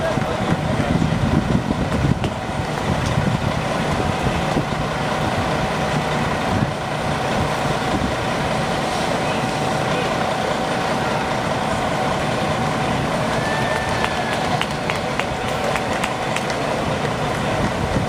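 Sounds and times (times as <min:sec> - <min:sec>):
constant engine whine: 0:00.0 - 0:18.0
diesel buses idling: 0:00.0 - 0:18.0.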